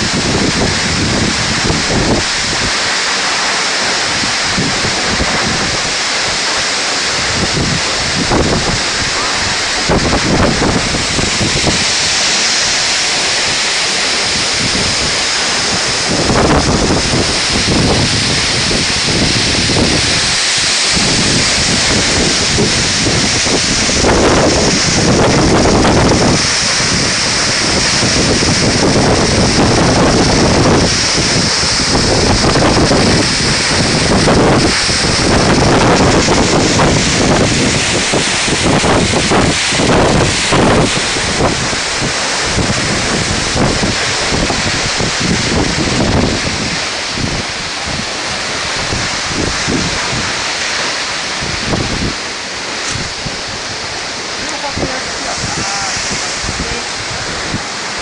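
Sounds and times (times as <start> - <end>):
waterfall rushing: 0.0 - 58.0
wind buffeting microphone: 0.0 - 58.0.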